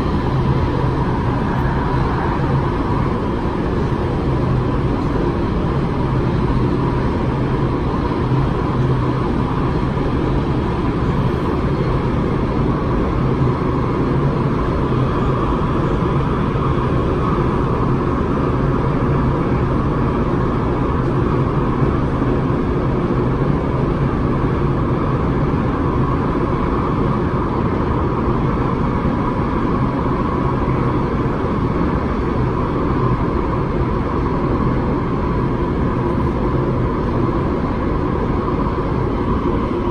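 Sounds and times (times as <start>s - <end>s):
constant low hum: 0.0s - 39.9s
train running noise: 0.0s - 39.9s.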